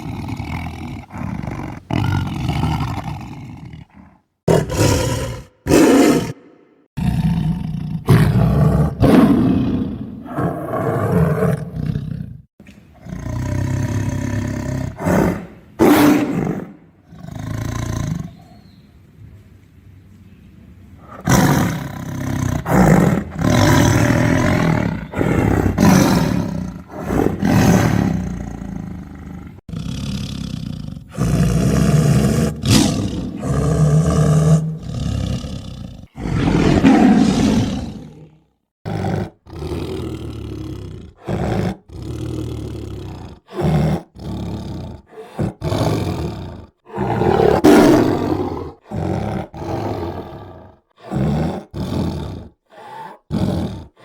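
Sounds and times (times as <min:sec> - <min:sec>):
tiger roaring and growling: 0:00.0 - 0:18.5, 0:21.0 - 0:54.0.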